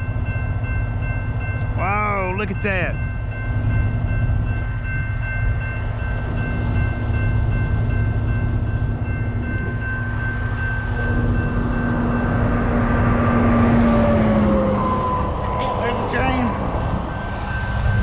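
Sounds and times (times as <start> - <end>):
crossing signal bell ringing: 0.0 - 18.0
freight train wheels rumbling: 0.0 - 18.0.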